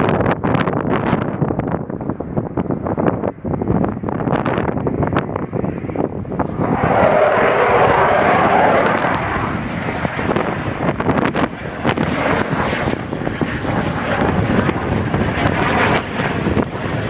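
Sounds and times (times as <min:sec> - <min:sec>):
jet engine roar: 0:00.0 - 0:17.0
wind buffeting microphone: 0:00.0 - 0:17.0.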